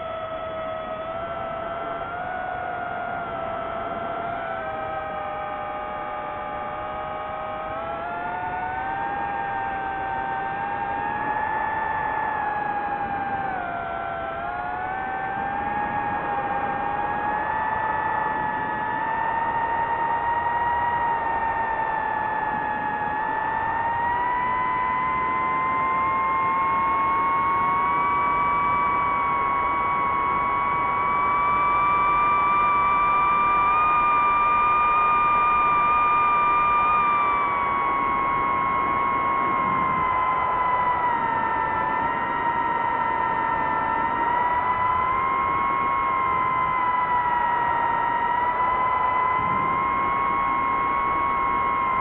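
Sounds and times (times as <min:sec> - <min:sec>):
drone propellers whining: 0:00.0 - 0:52.0.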